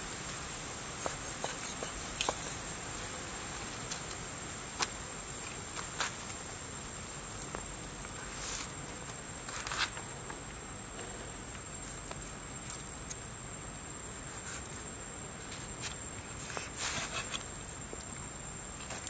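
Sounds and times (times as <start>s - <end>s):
faint hiss: 0.0s - 19.0s
high insect whine: 0.0s - 19.0s.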